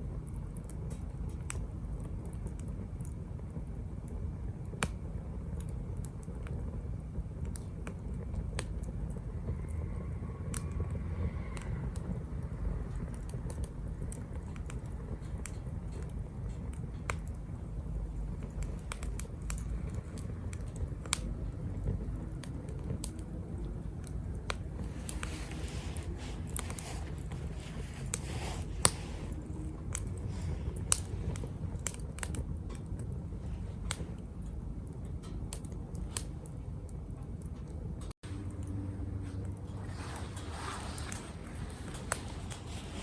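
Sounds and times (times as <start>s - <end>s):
steady low rumble: 0.0s - 43.0s
wood fire crackling and popping: 0.0s - 43.0s
fire hissing: 0.4s - 34.4s, 39.5s - 43.0s.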